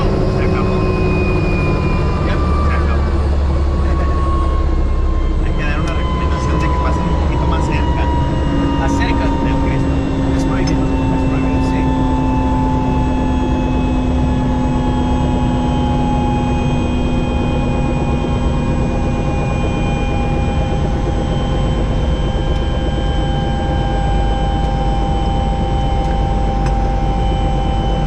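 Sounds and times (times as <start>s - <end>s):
helicopter engine and rotor rumble: 0.0s - 28.0s.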